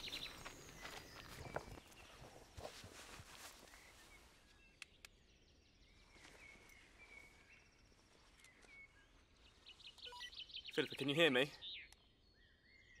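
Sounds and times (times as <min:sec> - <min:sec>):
faint woodland ambience: 0:00.0 - 0:13.0
soft bird chirps: 0:00.0 - 0:13.0.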